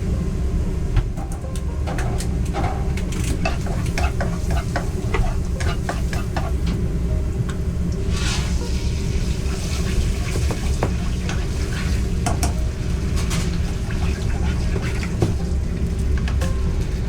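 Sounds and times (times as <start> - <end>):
food frying in a pan: 2.4 - 17.0.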